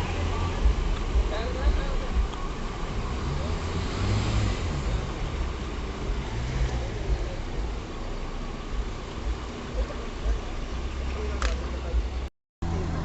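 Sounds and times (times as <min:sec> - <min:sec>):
street noise: 0:00.0 - 0:13.0
vehicle engines running: 0:00.0 - 0:13.0.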